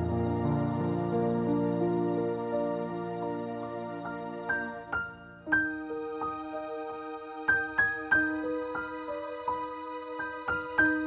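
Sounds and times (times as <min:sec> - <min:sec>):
gentle music with ringing notes: 0:00.0 - 0:11.0.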